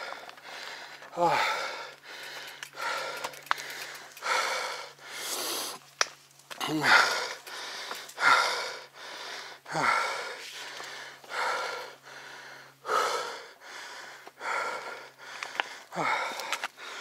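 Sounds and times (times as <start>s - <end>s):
man breathing hard: 0.0s - 5.8s, 6.6s - 17.0s.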